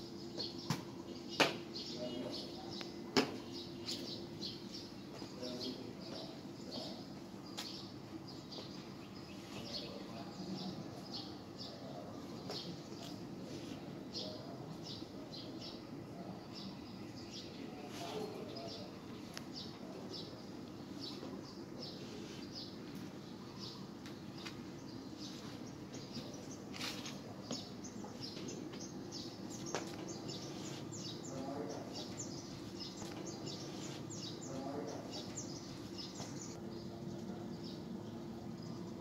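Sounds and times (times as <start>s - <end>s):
low background hum: 0.0s - 39.0s
small birds chirping: 0.0s - 39.0s.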